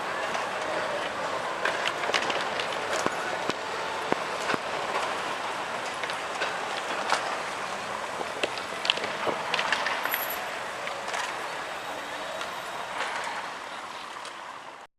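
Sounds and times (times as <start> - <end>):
tram wheels clattering on rails: 0.0 - 13.5
tram rumble: 0.0 - 14.9.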